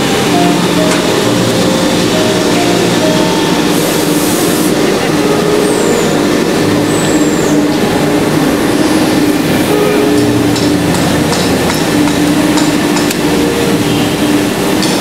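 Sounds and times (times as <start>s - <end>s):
production line machinery running: 0.0s - 15.0s.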